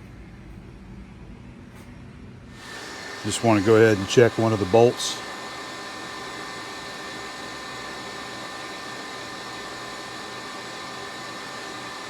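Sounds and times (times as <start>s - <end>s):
machine shop hiss and hum: 0.0s - 12.0s.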